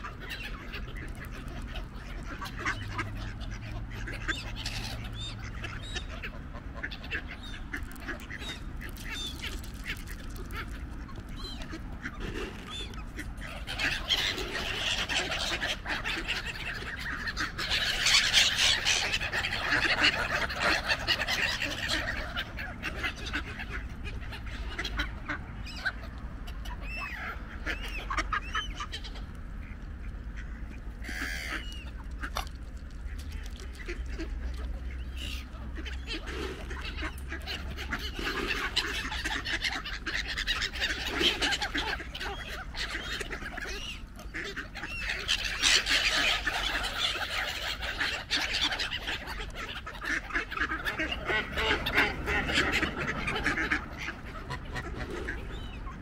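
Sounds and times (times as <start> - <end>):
ducks calling: 0.0 - 56.0
geese honking: 0.0 - 56.0.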